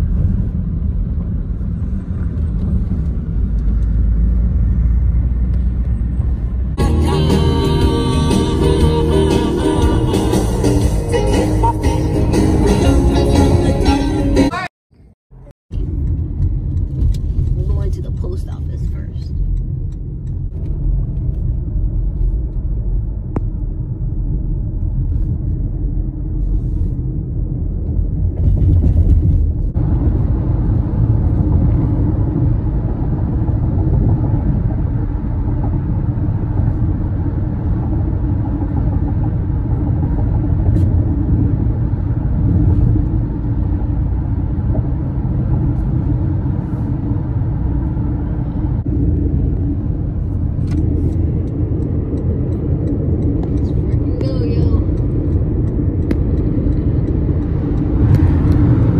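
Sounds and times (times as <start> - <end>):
car road noise rumble: 0.0 - 58.9.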